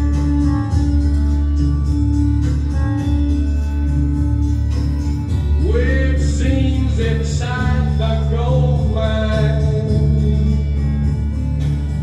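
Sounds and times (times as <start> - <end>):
song over speakers: 0.0 - 12.0.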